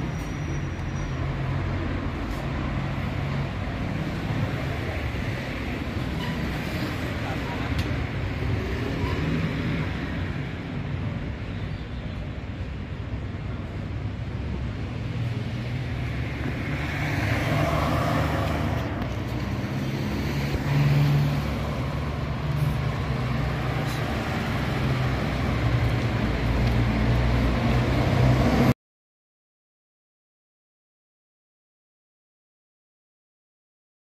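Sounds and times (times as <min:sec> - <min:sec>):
vehicles driving past: 0:00.0 - 0:28.8.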